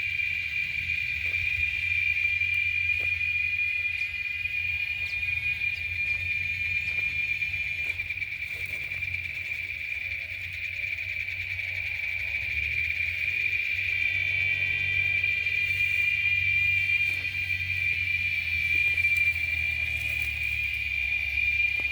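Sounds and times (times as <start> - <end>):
insect chorus buzzing: 0.0 - 21.9.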